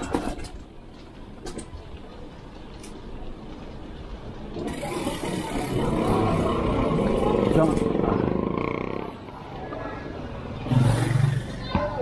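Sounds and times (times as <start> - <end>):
bike riding rumble: 0.0 - 12.0.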